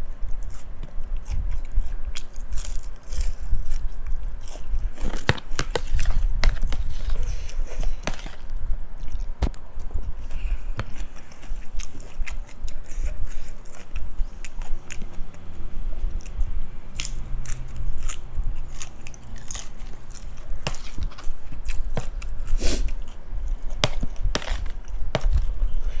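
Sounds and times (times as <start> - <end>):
chewing crunchy food: 0.0 - 26.0.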